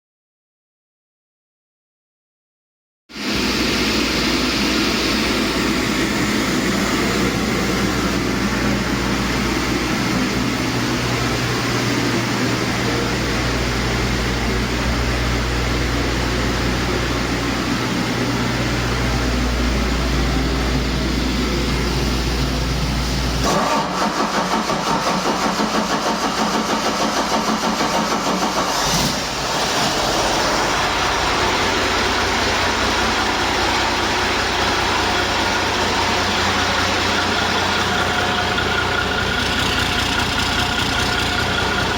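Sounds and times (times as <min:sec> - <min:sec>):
diesel engine running: 0:03.2 - 0:41.9.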